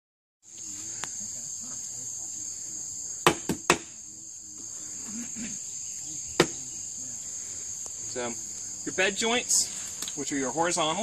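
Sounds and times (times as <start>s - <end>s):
high insect trill: 0.4s - 11.0s.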